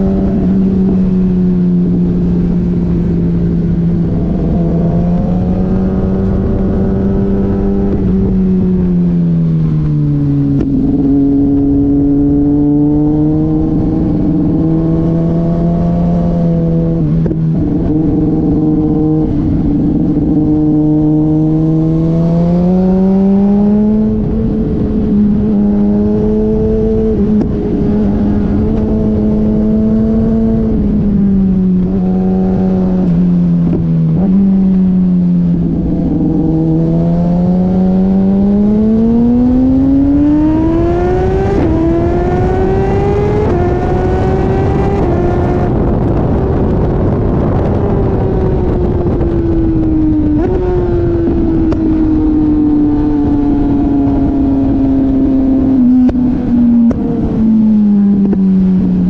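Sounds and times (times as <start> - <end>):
motorcycle engine running hard: 0.0 - 59.0
wind noise: 0.0 - 59.0.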